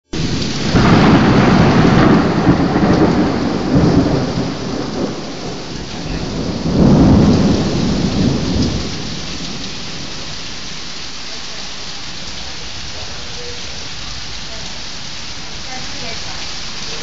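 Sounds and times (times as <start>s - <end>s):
heavy rain: 0.0s - 17.0s
thunder rumbling: 0.1s - 17.0s.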